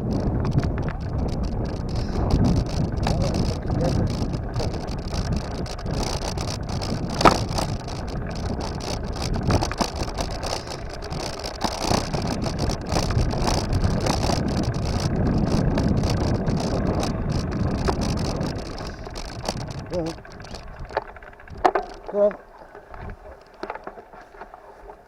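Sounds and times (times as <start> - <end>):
bicycle rumbling: 0.0 - 25.0.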